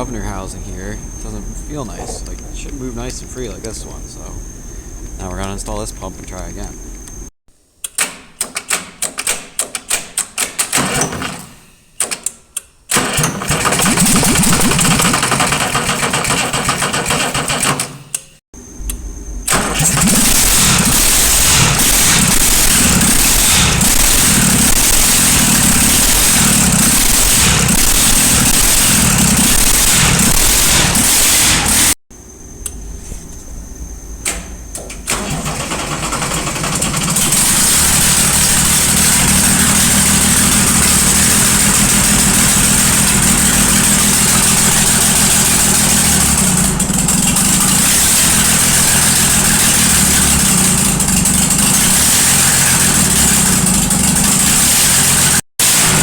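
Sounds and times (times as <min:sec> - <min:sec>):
diesel engine cranking and starting: 0:00.0 - 0:07.3, 0:10.4 - 0:12.3, 0:12.9 - 0:32.0, 0:33.8 - 0:56.0.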